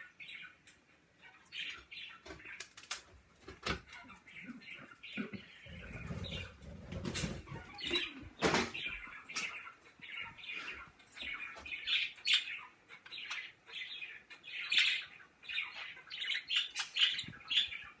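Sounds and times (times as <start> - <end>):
pet birds chirping: 0.0 - 18.0.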